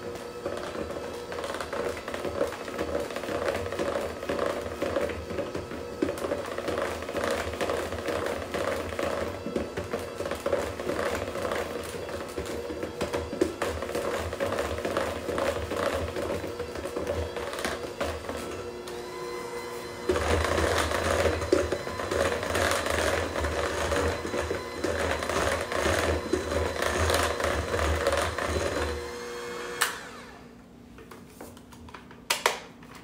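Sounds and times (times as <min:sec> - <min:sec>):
electric hand mixer whining: 0:00.0 - 0:30.6.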